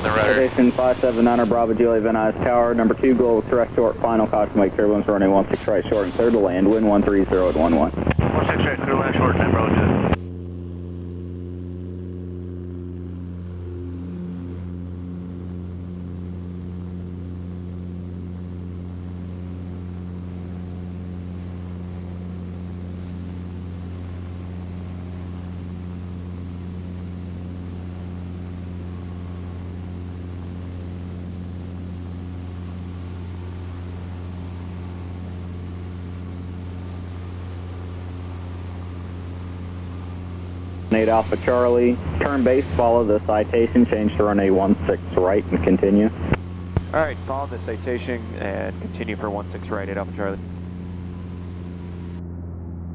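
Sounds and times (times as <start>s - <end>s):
propeller plane engine drone: 0.0s - 52.9s.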